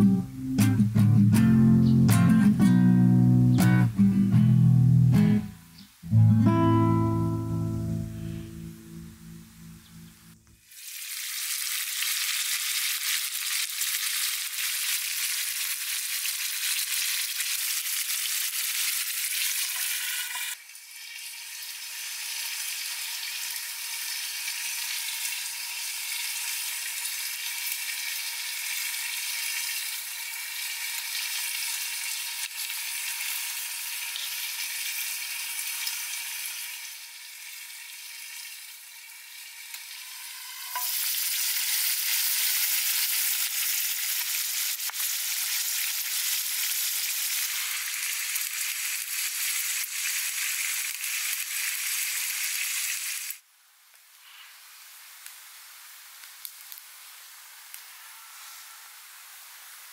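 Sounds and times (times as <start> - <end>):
sausages and eggs sizzling in pan: 7.8 - 59.9.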